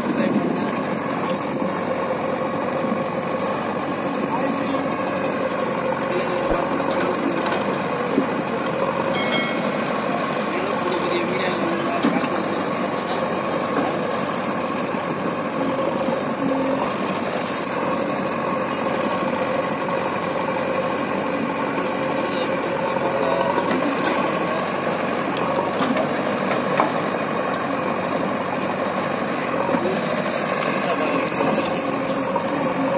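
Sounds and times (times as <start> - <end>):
backhoe loader diesel engine: 0.0 - 32.9
tractor diesel engine: 0.0 - 32.9.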